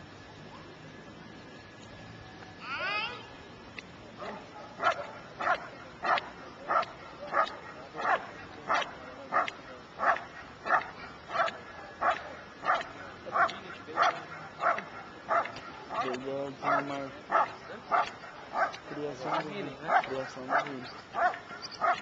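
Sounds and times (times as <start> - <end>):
dog barking: 4.2 - 22.0.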